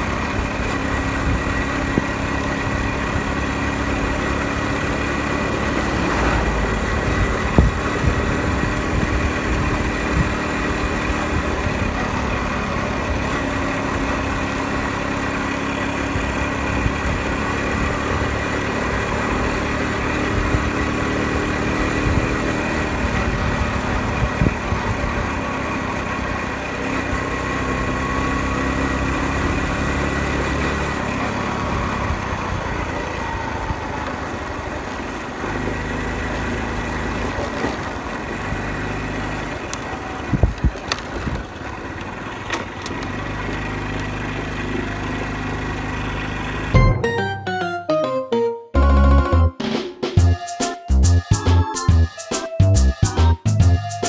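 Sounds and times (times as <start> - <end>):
road and wind noise: 0.0 - 46.8
small motorcycle engine running: 0.0 - 46.8.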